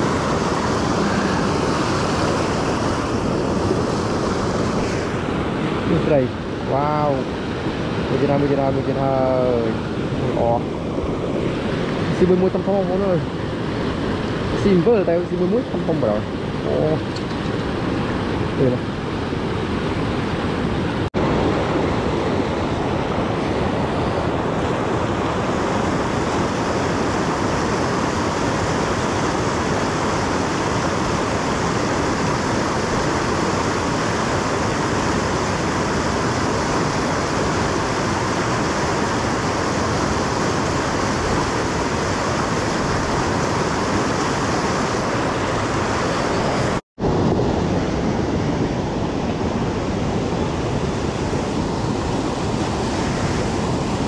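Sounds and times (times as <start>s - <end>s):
steady loud rushing noise: 0.0s - 54.0s.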